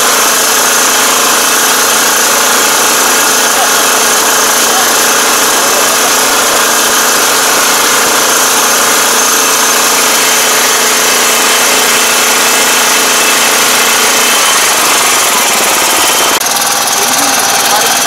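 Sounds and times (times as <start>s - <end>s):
engine running steadily: 0.0s - 18.0s
mechanical clatter: 0.0s - 18.0s.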